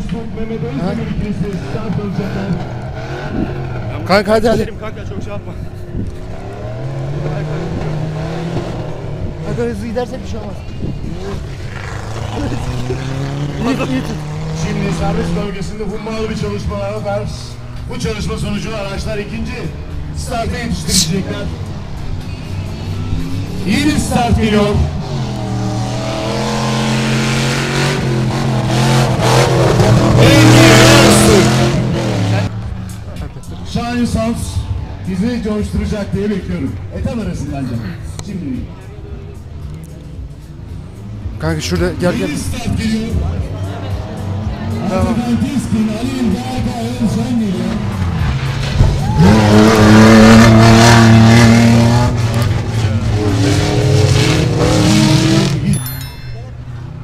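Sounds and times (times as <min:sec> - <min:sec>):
engine running at high revs: 0:00.7 - 0:04.8, 0:05.8 - 0:33.2, 0:39.4 - 0:55.7.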